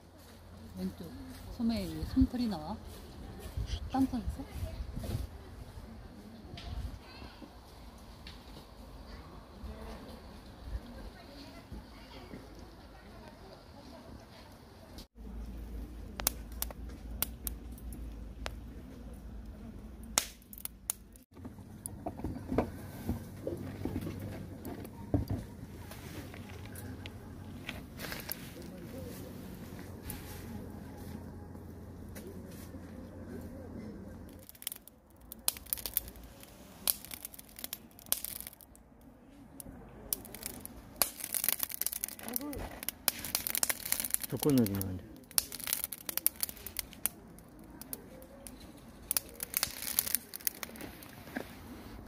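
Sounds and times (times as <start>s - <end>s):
charcoal fire crackling and popping: 0.1s - 5.8s, 6.4s - 52.0s.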